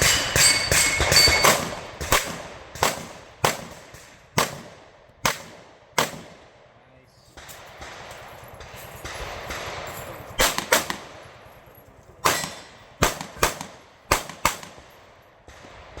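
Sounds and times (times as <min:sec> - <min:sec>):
gunshots with short echo: 0:00.0 - 0:06.4, 0:07.4 - 0:11.4, 0:12.2 - 0:16.0.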